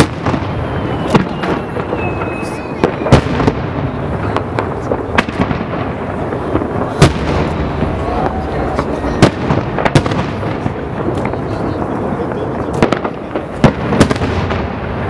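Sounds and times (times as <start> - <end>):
firework booms: 0.0 - 15.0
rumble and crackle of bursts: 0.0 - 15.0.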